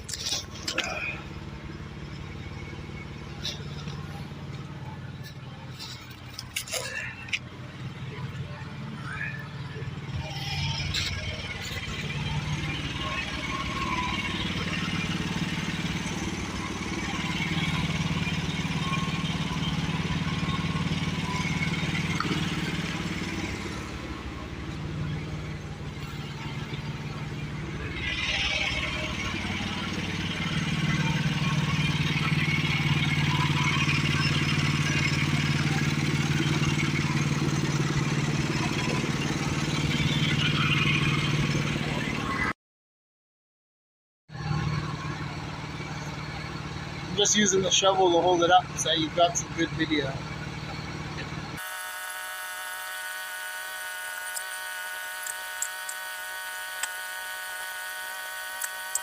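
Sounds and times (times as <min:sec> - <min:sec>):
small gas engine running: 0:00.0 - 0:42.5, 0:44.3 - 0:59.0.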